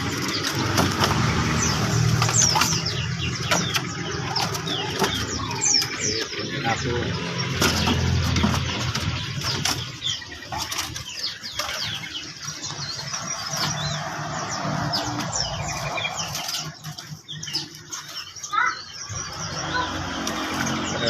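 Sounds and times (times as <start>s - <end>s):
songbirds chirping: 0.0s - 21.0s
wings fluttering against cages: 0.0s - 21.0s.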